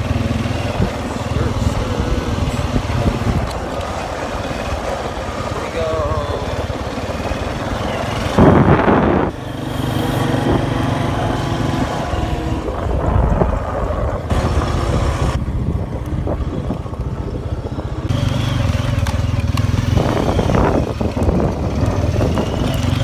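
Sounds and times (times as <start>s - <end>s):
small engine running: 0.0s - 13.1s, 16.5s - 23.0s
wind buffeting microphone: 0.0s - 23.0s.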